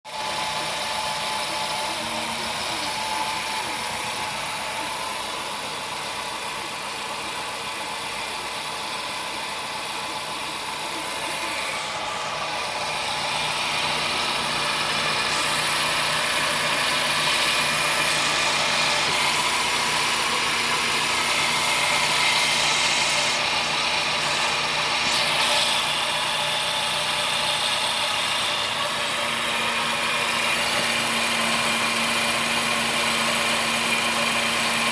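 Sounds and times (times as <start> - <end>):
car engine low hum: 0.2 - 34.9.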